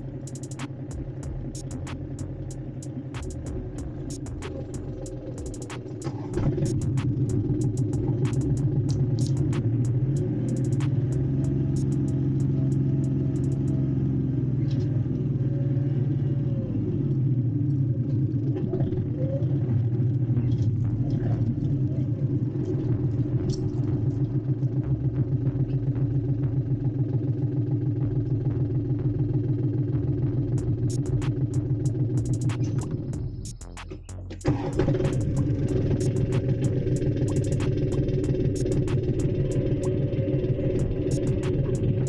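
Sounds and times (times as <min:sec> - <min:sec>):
engine rumbling at low speed: 0:00.0 - 0:42.0.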